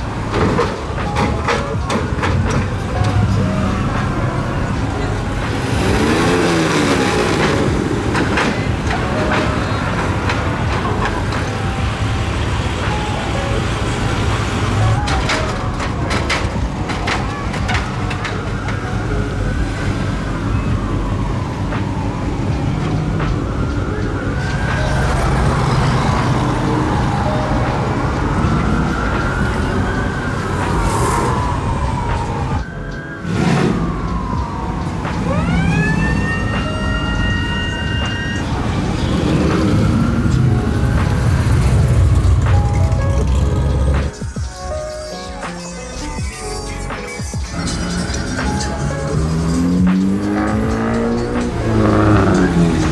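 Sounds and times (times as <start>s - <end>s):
engines rumbling: 0.0s - 52.9s
police siren wailing: 0.0s - 52.9s
higher siren tone: 0.9s - 46.3s.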